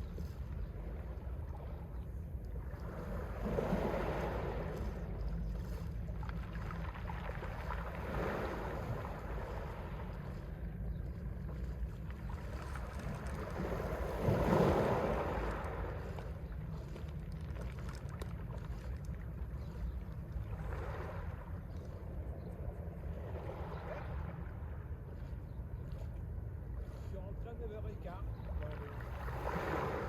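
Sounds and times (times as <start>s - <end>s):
steady low rumble: 0.0s - 29.3s
sea waves breaking: 0.0s - 30.0s.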